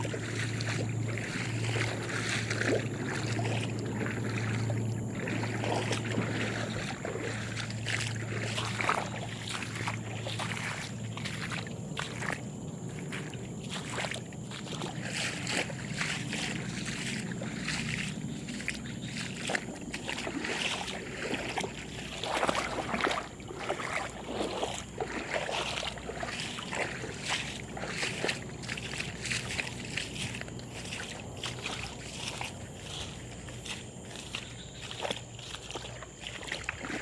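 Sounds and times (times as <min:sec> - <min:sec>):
floodwater sloshing and splashing: 0:00.0 - 0:37.0.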